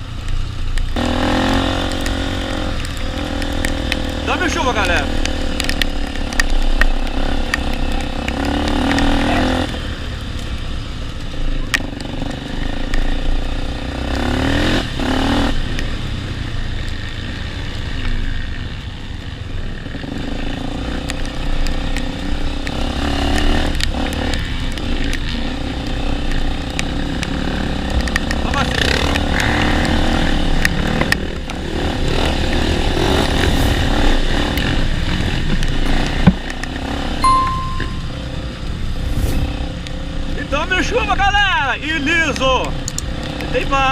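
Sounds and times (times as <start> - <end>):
motorcycle engine revving: 0.0 - 40.6, 42.4 - 43.9.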